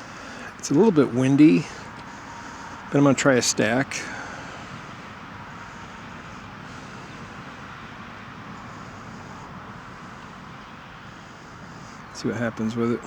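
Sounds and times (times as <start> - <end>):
distant road traffic: 0.0 - 13.0.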